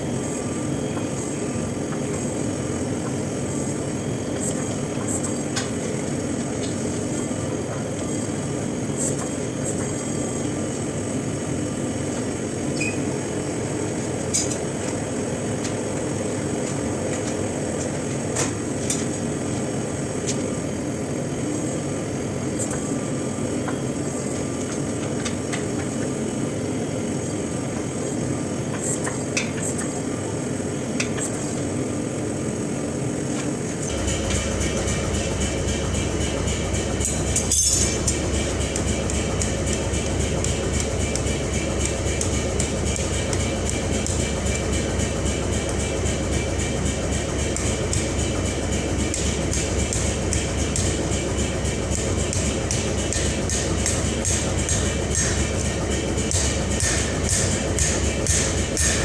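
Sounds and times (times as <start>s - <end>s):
shop equipment roaring: 0.0s - 59.0s.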